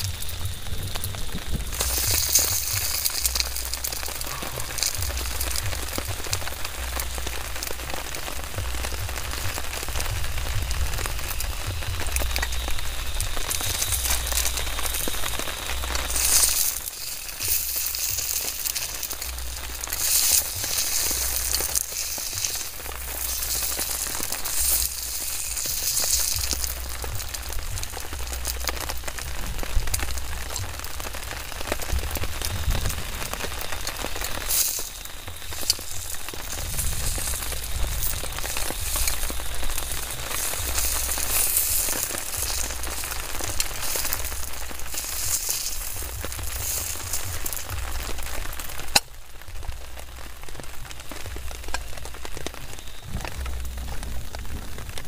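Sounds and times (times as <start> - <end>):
heavy rain on a tent: 0.0 - 55.0.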